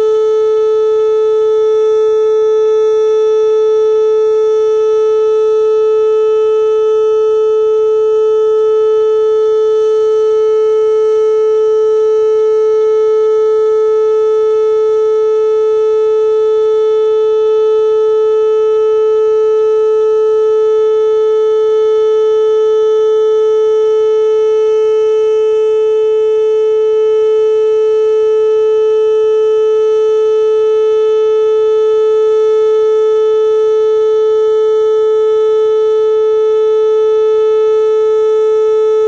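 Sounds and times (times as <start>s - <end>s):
tornado siren steady tone: 0.0s - 39.0s.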